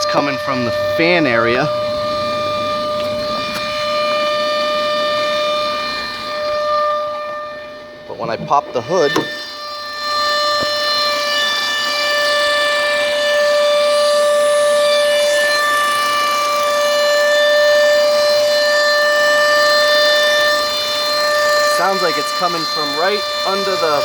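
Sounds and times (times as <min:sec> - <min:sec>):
car engine high-pitched whine: 0:00.0 - 0:24.0.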